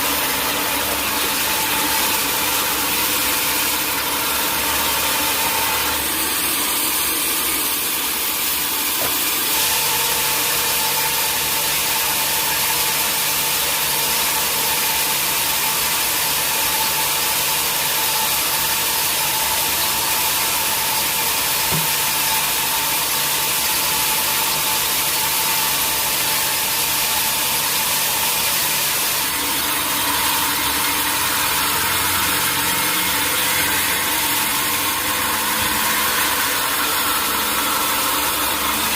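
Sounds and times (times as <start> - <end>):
saw cutting log: 0.0 - 38.9.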